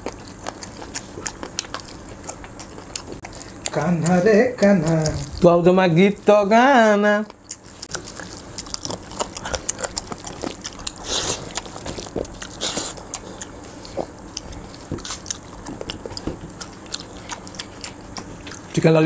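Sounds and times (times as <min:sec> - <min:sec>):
chewing and lip smacks: 0:00.0 - 0:05.6, 0:07.2 - 0:18.9.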